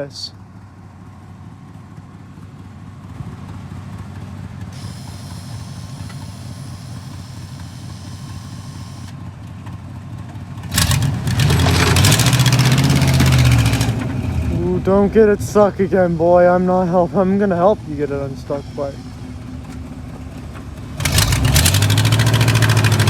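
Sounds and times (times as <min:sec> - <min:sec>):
vehicle engine revving: 0:03.0 - 0:09.2, 0:10.6 - 0:23.0.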